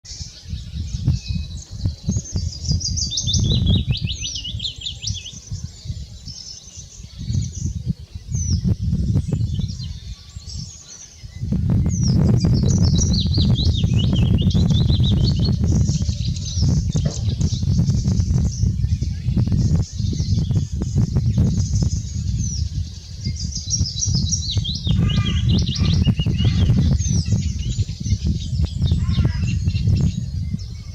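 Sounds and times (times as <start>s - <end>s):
songbirds twittering: 0.0s - 30.9s
low rumbling noise: 0.1s - 30.9s.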